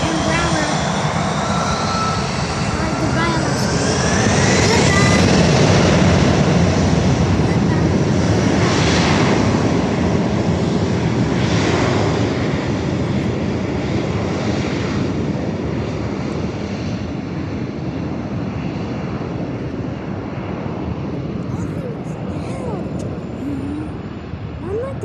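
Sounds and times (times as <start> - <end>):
jet airliner engines roaring: 0.0 - 25.0.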